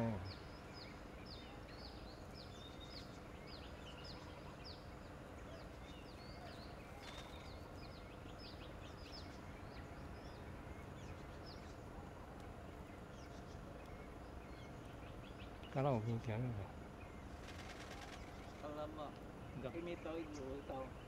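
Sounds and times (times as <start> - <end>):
low background noise: 0.0 - 21.0.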